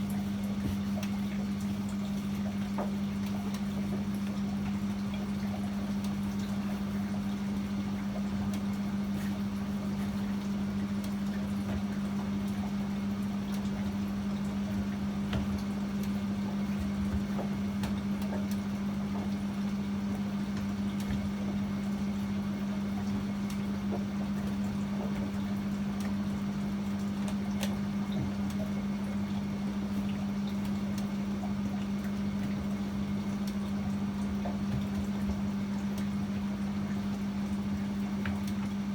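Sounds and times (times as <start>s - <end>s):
washing machine humming: 0.0s - 38.9s.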